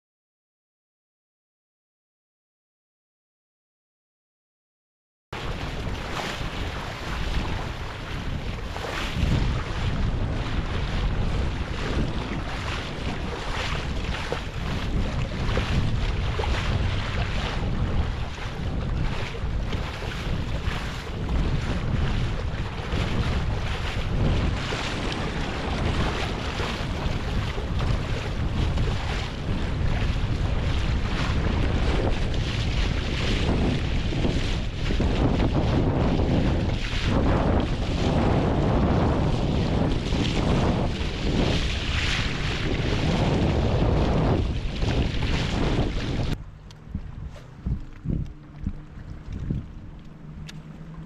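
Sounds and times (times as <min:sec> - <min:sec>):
wind buffeting microphone: 0:05.4 - 0:51.0.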